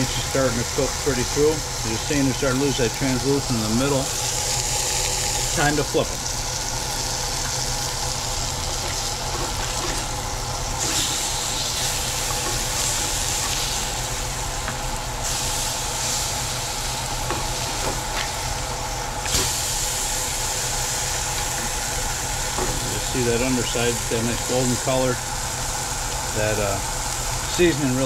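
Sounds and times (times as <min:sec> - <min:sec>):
fish sizzling in a frying pan: 0:00.0 - 0:28.0
kitchen exhaust fan humming: 0:00.0 - 0:28.0.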